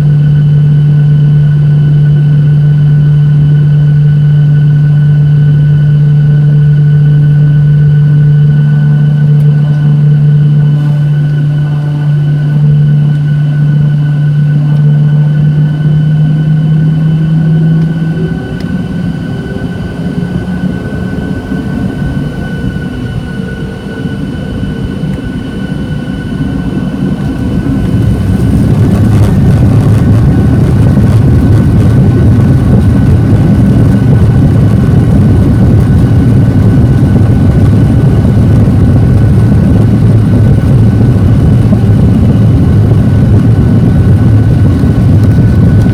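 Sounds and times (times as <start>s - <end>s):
jet engines humming: 0.0s - 45.9s
jet engines roaring: 0.0s - 45.9s.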